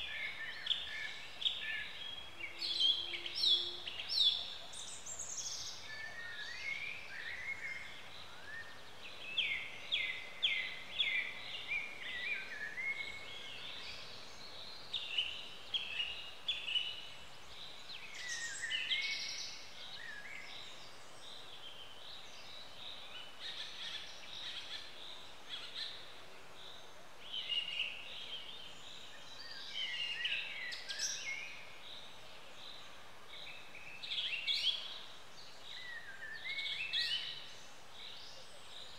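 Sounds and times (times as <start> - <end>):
faint background hiss: 0.0 - 38.9
songbirds chirping and trilling: 0.0 - 38.9.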